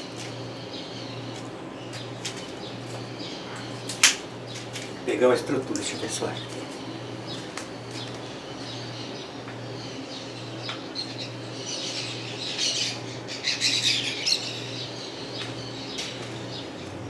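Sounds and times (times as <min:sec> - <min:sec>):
birds chirping and squawking: 0:00.0 - 0:17.0
low pulsing hum: 0:00.0 - 0:17.0.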